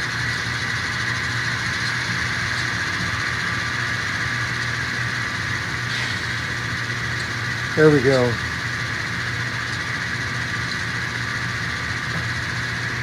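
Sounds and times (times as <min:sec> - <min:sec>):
diesel engine sound from small speaker: 0:00.1 - 0:13.0.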